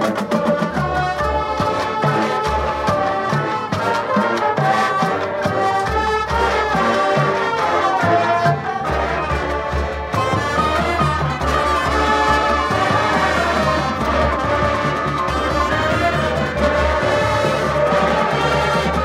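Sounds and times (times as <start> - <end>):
percussion ensemble: 0.0 - 19.0
brass section playing chords: 0.8 - 19.0.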